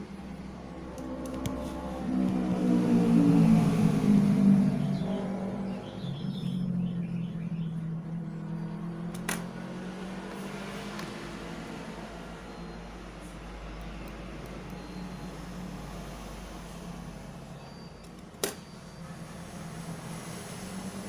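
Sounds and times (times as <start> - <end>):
vehicle engine passing by: 0.0 - 17.6, 18.9 - 21.0.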